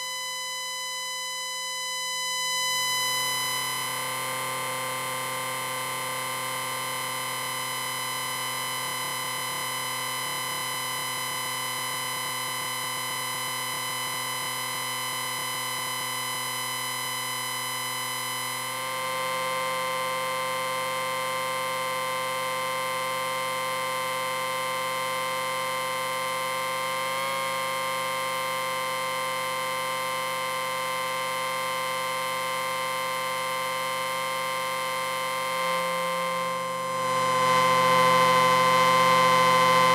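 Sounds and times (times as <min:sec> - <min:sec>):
amplifier whine: 0:00.0 - 0:39.9.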